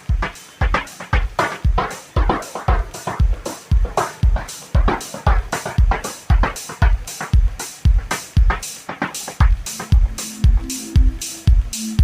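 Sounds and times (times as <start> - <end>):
music with electronic drum beat: 0.0 - 12.0.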